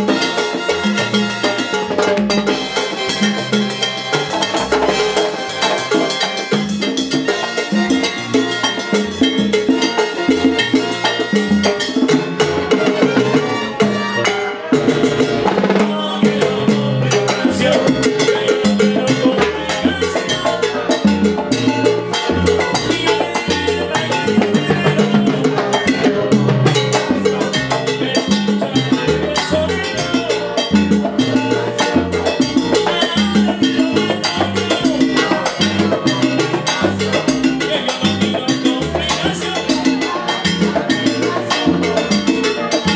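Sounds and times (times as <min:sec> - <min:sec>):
live salsa band playing: 0:00.0 - 0:42.9.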